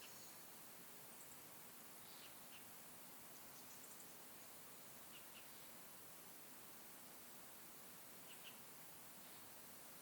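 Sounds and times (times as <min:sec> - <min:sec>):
faint bird chirps: 0:00.0 - 0:05.9, 0:07.0 - 0:09.7.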